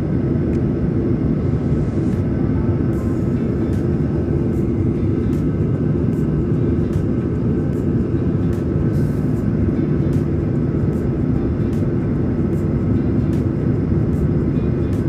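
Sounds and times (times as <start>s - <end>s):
airliner cabin rumble: 0.0s - 15.0s
faint steady hum: 0.0s - 15.0s.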